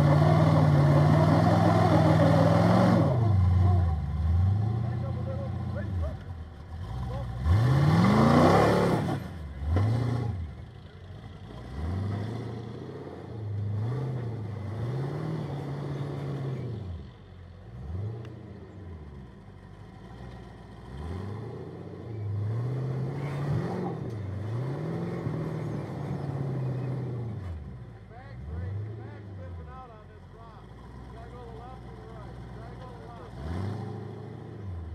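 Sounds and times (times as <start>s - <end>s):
buggy engine revving: 0.0s - 34.9s.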